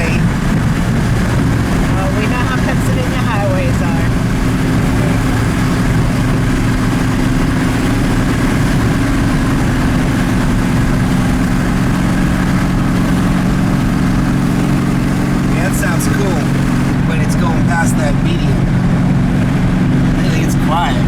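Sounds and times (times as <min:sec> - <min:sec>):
car engine and road noise drone: 0:00.0 - 0:21.0.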